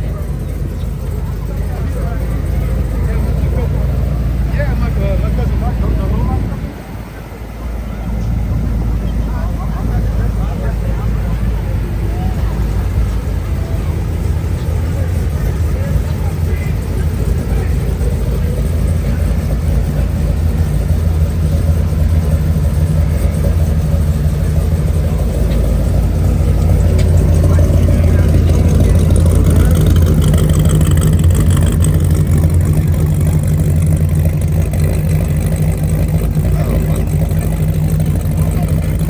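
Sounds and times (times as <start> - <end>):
car engine droning: 0.0 - 39.0
road noise: 0.0 - 39.0.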